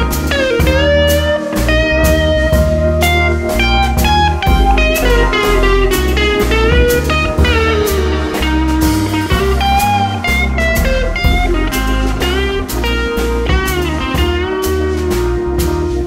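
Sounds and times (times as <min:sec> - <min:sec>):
bass and drum beat: 0:00.0 - 0:16.0
music with gliding lead melody: 0:00.0 - 0:16.0.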